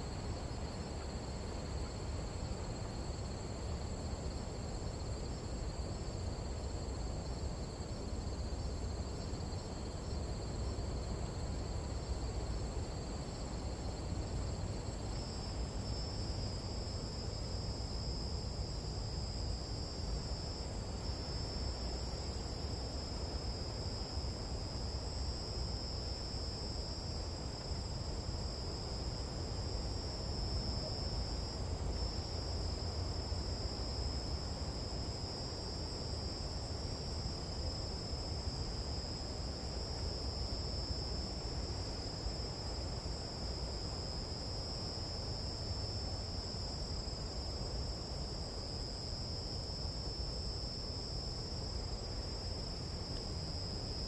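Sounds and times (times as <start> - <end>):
loud continuous insect trill: 0.0 - 54.0
night insects trilling: 0.0 - 54.0.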